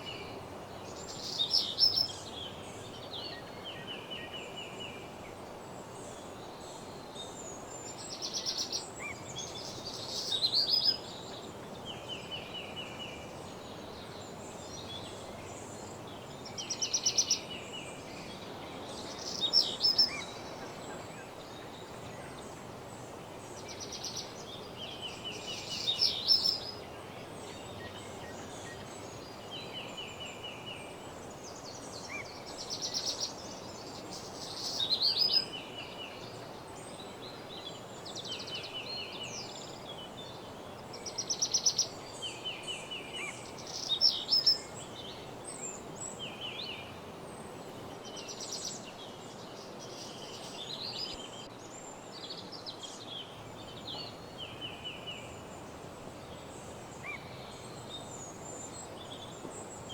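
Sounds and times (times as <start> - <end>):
songbird singing: 0.0 - 59.9
steady background hiss: 0.0 - 59.9.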